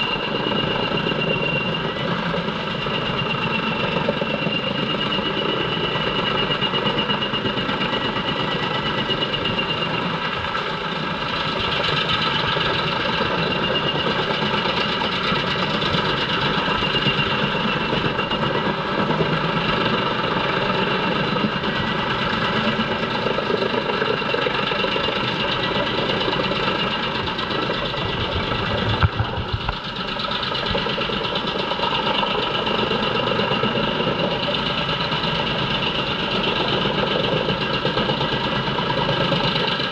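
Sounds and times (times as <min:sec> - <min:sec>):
wood chipper running under load: 0:07.1 - 0:39.9.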